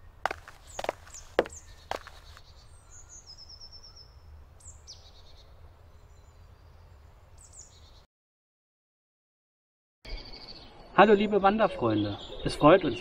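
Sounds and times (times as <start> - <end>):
songbirds trilling and chirping: 0.0 - 8.0, 10.1 - 13.0.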